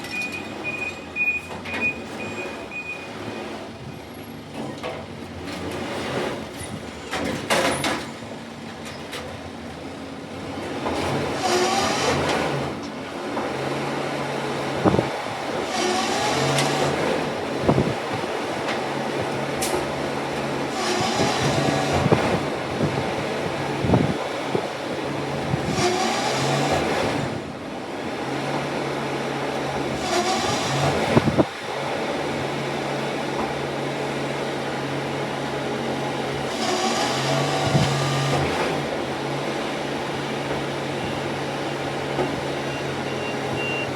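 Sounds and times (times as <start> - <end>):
garbage truck engine running: 0.0 - 43.9.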